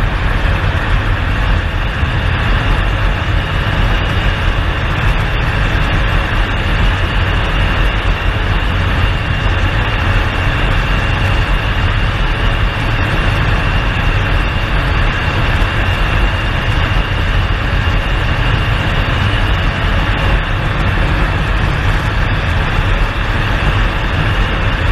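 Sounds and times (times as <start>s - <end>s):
engine high whine: 0.0s - 24.9s
turboprop engine rumbling: 0.0s - 24.9s.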